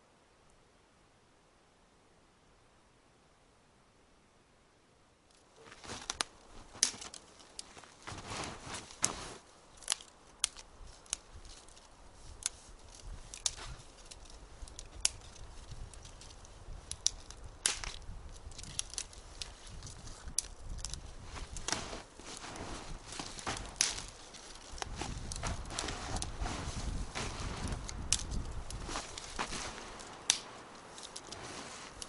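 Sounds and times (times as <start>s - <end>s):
dry twigs snapping: 5.3s - 32.0s
soft crunching: 5.3s - 32.0s.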